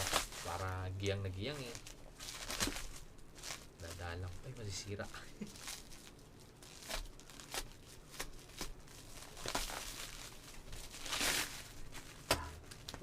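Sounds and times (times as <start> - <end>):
packaging crinkling: 0.0 - 13.0
rustling tear: 0.0 - 13.0.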